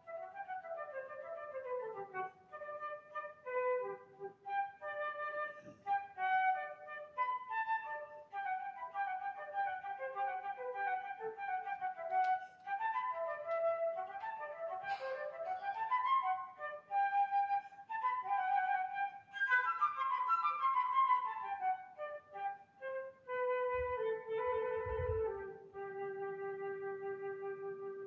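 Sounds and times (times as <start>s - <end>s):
flute melody with quick runs: 0.0s - 28.0s.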